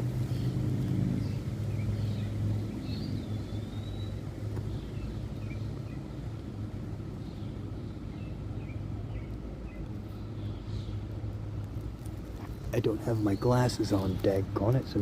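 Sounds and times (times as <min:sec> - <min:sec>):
low motor hum: 0:00.0 - 0:13.4
birds chirping: 0:00.0 - 0:15.0.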